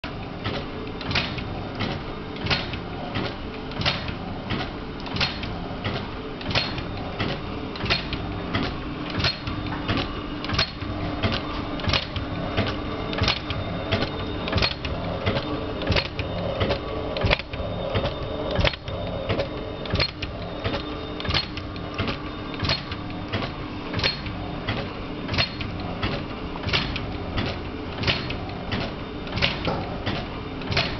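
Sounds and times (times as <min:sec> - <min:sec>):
machine hum: 0:00.1 - 0:30.9
sharp rhythmic clicks: 0:00.4 - 0:30.9.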